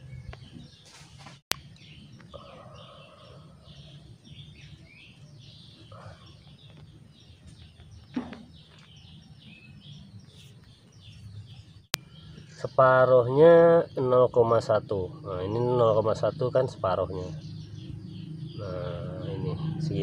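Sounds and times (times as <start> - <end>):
low outdoor background hum: 0.0 - 20.0
small birds chirping: 0.0 - 20.0.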